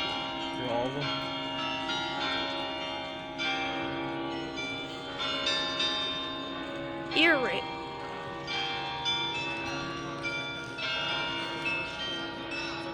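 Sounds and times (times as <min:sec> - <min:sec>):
church bells ringing: 0:00.0 - 0:12.9.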